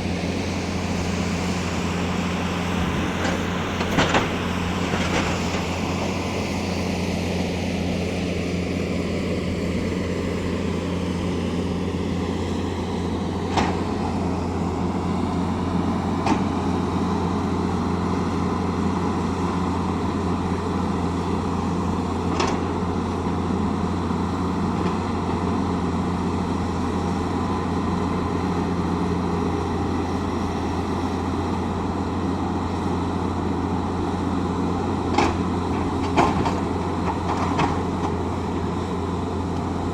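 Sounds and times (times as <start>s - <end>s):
excavator diesel engine humming: 0.0s - 39.9s.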